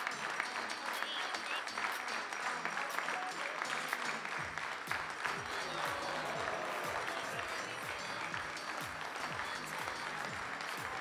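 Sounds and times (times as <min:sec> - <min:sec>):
music with steady beat: 0:00.0 - 0:11.0
spectators applauding: 0:00.0 - 0:11.0.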